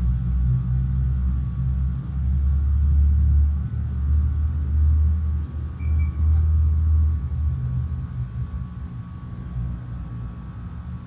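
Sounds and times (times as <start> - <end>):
heat pump low rumble: 0.0 - 11.0.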